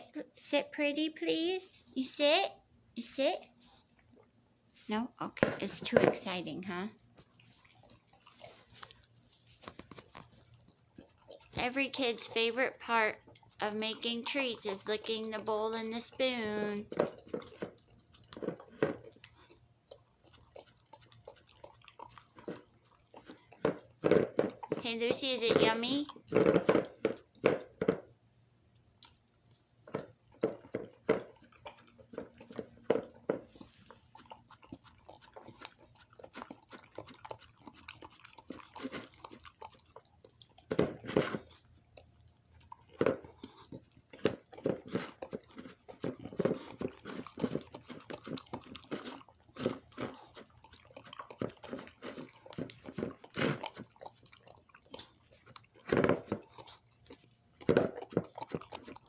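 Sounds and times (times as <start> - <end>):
puppy licking and lapping: 3.0 - 59.0.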